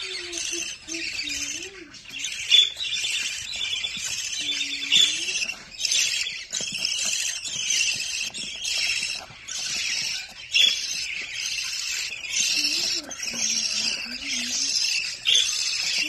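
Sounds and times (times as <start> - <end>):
chicks' raspy begging calls: 0.0 - 16.0.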